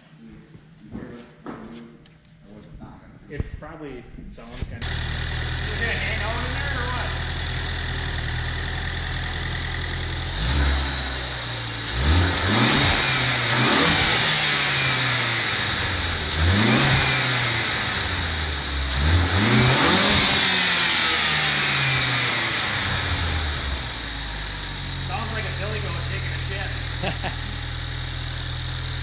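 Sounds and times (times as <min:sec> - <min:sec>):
car engine idling and revving: 0:04.8 - 0:29.0.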